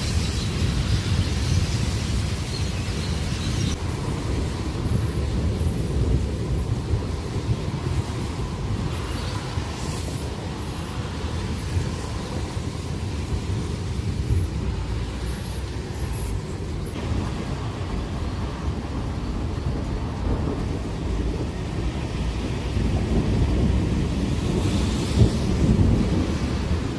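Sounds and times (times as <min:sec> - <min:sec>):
gusty wind buffeting microphone: 0:00.0 - 0:26.9.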